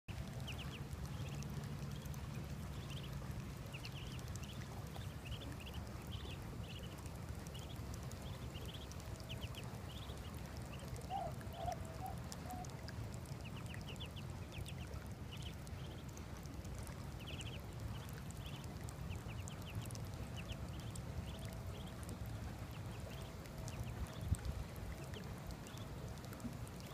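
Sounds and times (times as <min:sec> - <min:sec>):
ducklings peeping: 0:00.2 - 0:16.2, 0:16.8 - 0:26.9.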